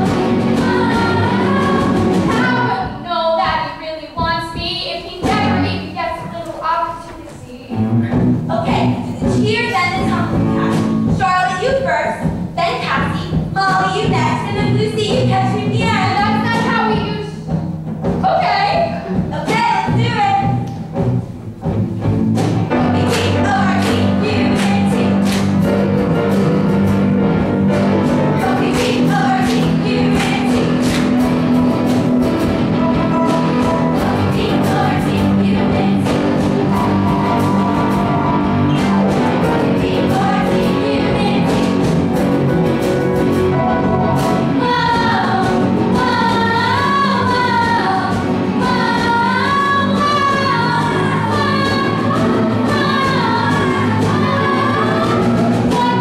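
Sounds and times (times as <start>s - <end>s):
song with beat and singing: 0.0s - 6.4s, 13.3s - 56.0s.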